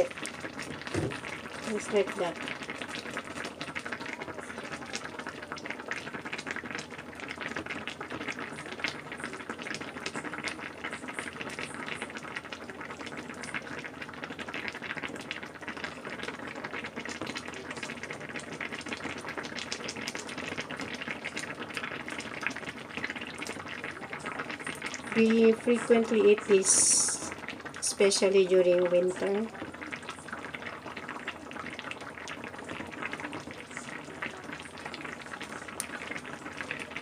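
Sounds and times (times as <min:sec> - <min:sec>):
broth bubbling in pot: 0:00.0 - 0:37.0.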